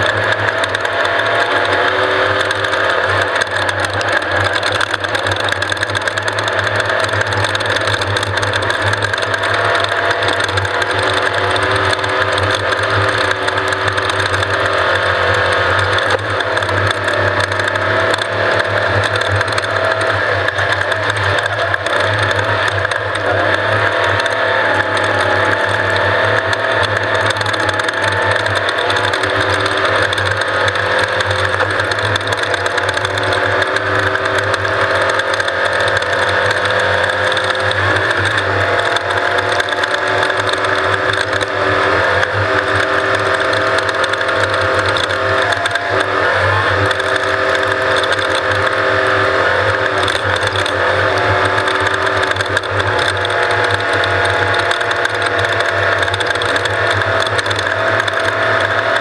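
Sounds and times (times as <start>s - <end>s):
race vehicle engine drone: 0.0s - 59.0s.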